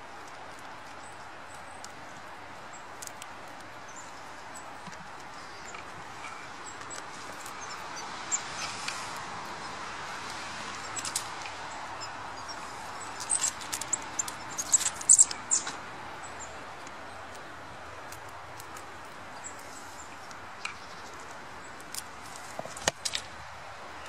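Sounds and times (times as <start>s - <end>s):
open air hiss: 0.0s - 24.0s
small birds chirping: 0.0s - 24.0s.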